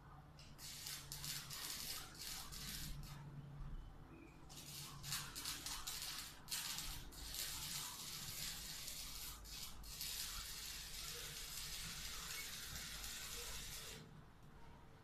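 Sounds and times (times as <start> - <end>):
welding arc hissing: 0.6 - 3.2, 4.5 - 14.0.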